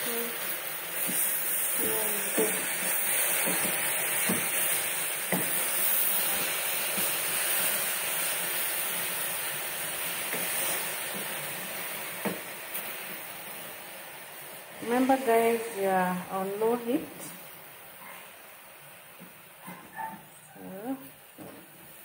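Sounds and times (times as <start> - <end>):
greens sizzling in oil: 0.0 - 22.0.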